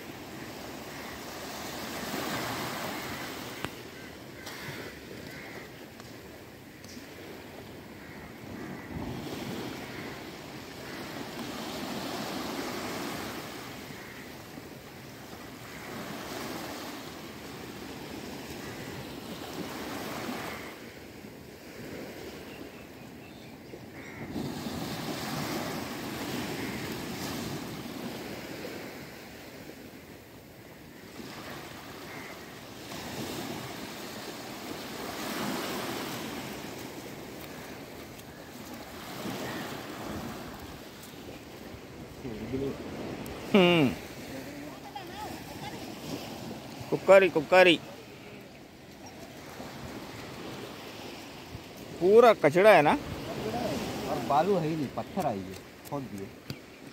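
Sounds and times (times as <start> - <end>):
waves breaking on shore: 0.0 - 56.9.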